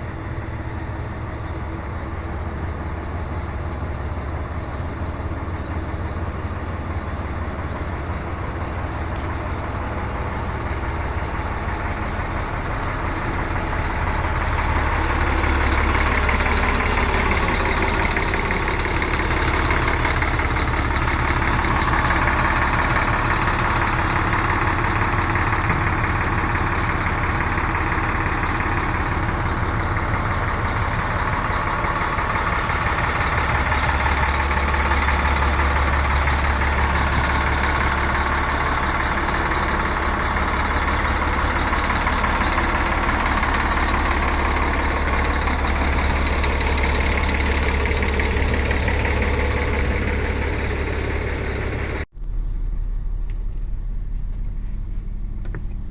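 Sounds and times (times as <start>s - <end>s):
diesel bus engine running: 0.0s - 55.9s.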